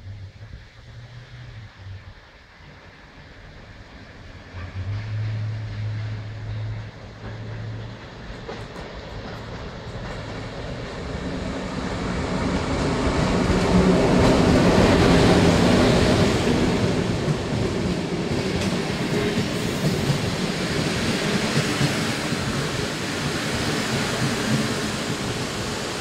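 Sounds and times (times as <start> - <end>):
train rumbling past: 0.0 - 26.0.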